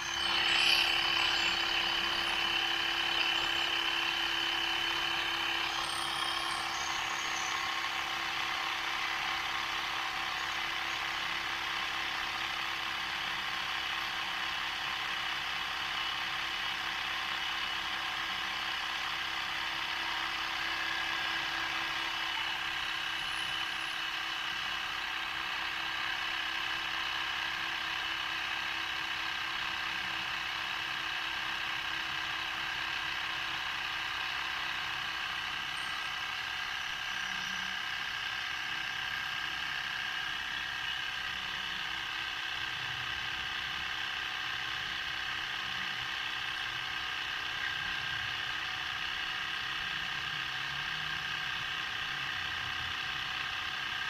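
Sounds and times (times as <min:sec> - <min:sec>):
electric tyre inflator running: 0:00.0 - 0:54.0.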